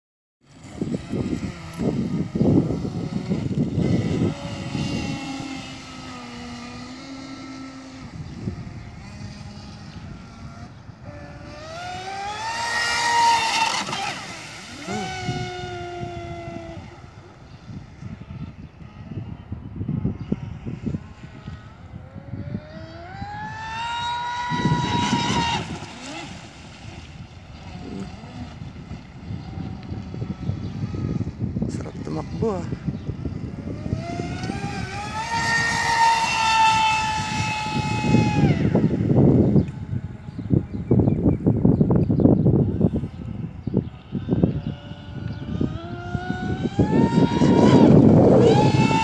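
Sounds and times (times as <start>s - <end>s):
electric boat motor whine: 0.4s - 49.0s
wind buffeting microphone: 0.4s - 49.0s.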